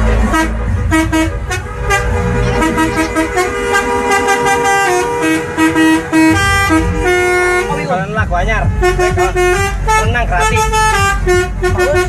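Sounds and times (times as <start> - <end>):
bus musical horn playing a tune: 0.0 - 12.0.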